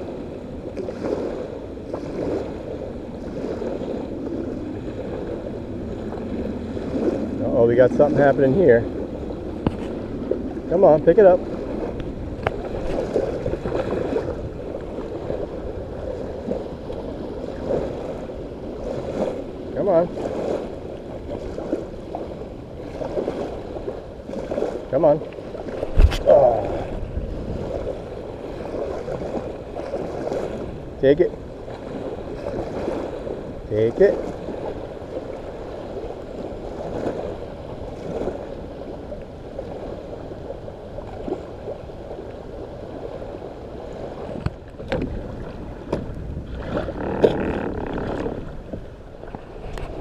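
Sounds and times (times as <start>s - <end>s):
waves lapping against boat hull: 0.0s - 50.0s
wind rumble on microphone: 0.0s - 50.0s.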